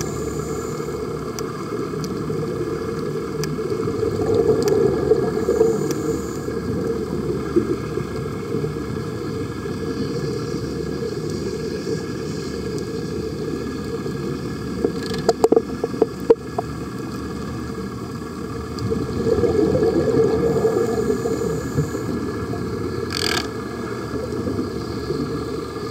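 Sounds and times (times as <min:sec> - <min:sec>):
muffled underwater rumble: 0:00.0 - 0:25.9.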